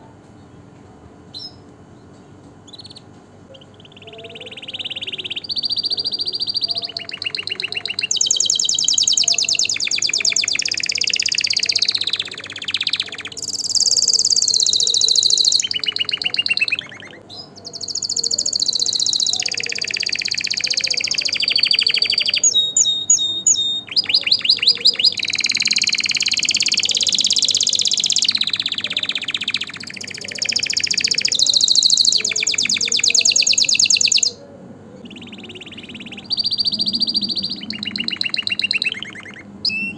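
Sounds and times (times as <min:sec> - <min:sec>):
canary singing trills: 0:01.3 - 0:39.9.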